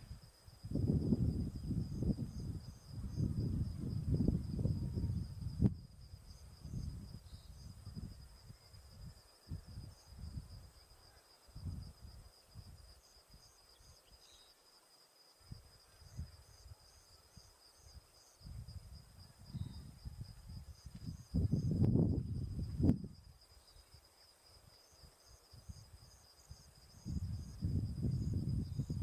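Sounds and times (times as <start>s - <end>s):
insect trill: 0.0s - 29.0s.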